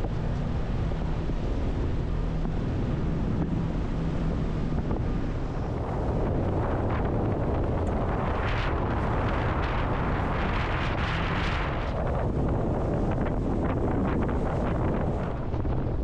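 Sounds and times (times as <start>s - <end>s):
speedboat engine running: 0.0s - 16.0s
wind buffeting microphone: 0.0s - 16.0s.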